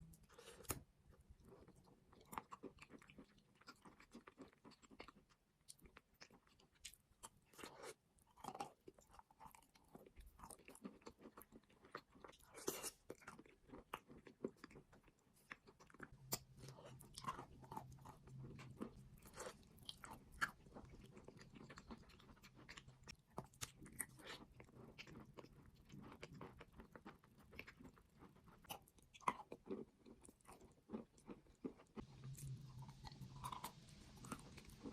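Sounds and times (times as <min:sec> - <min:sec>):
crunchy chewing: 0:00.1 - 0:34.9.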